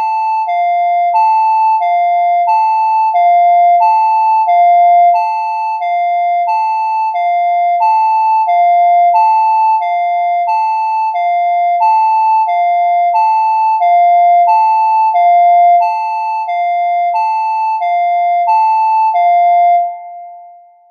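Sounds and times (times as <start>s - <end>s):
two-tone electronic alarm: 0.0s - 20.9s.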